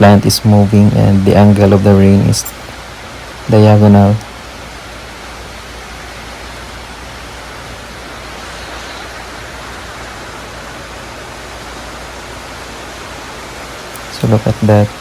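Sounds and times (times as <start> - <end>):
heavy rain on a roof: 0.0 - 15.0.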